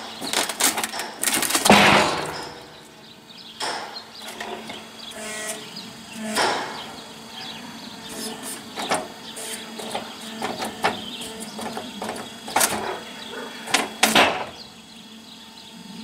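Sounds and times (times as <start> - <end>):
knocks and clanks: 0.0 - 5.6, 6.2 - 7.0, 8.1 - 14.6
faint machinery hum: 0.0 - 16.0.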